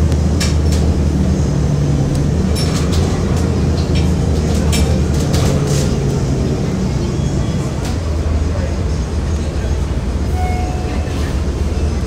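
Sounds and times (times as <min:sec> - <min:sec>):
engine low hum: 0:00.0 - 0:12.0
road noise: 0:00.0 - 0:12.0.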